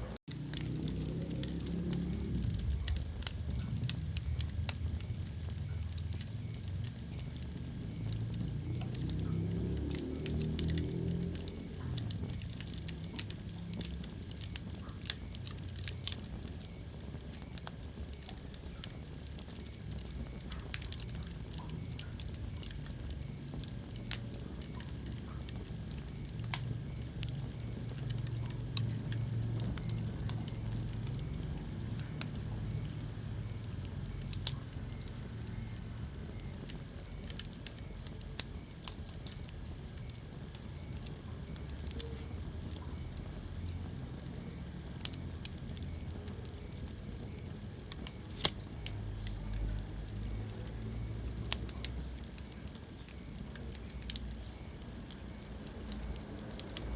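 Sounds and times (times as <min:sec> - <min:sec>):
low rumble of flames: 0:00.0 - 0:56.9
wood fire crackling and popping: 0:00.0 - 0:56.9.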